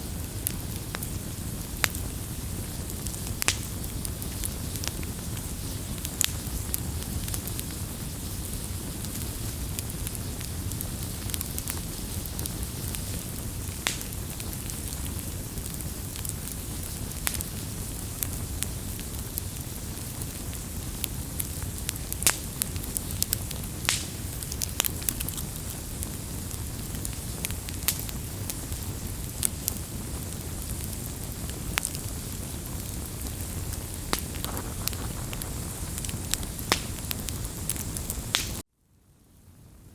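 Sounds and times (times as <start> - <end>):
wood crackling and popping: 0.0 - 38.7
low rumble of flames: 0.0 - 39.9.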